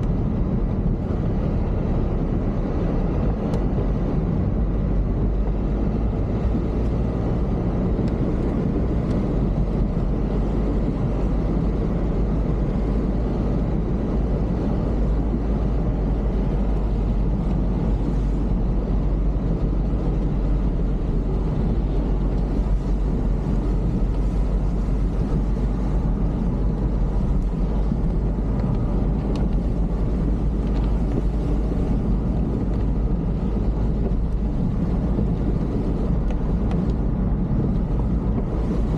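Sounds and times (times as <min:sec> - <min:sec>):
vehicle engine and road noise: 0:00.0 - 0:38.9.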